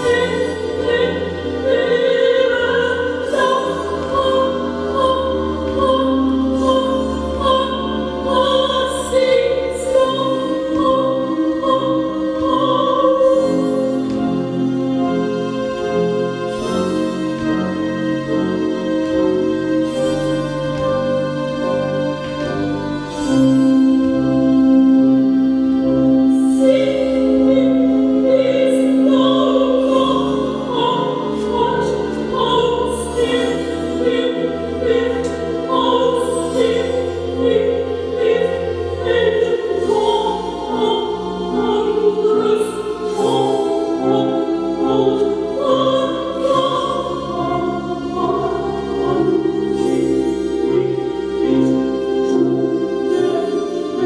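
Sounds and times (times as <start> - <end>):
operatic choral singing: 0.0 - 54.0.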